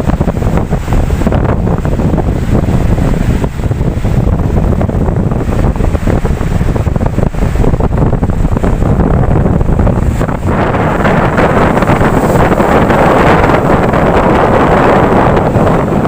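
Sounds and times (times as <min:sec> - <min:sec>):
ocean waves washing in: 0:00.0 - 0:16.0
wind buffeting microphone: 0:00.0 - 0:16.0.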